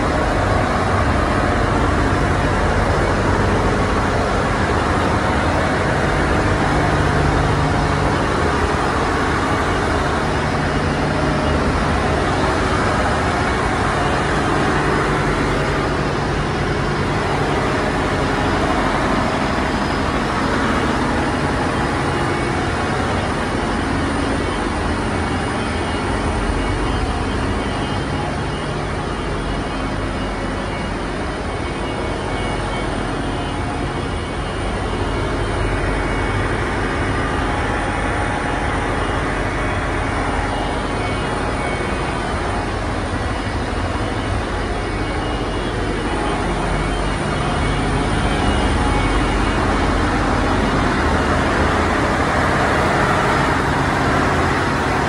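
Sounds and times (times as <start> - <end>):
engine-room machinery droning: 0.0 - 55.0.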